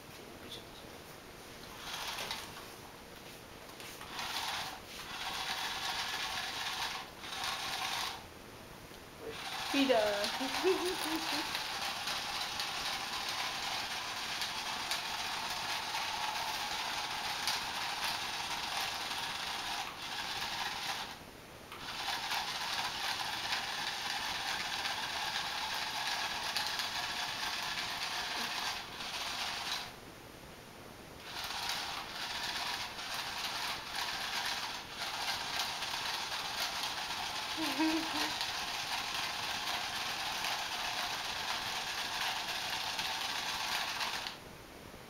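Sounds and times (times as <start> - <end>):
toy motor whirring: 1.7 - 2.5, 4.0 - 8.2, 9.2 - 30.0, 31.2 - 44.4.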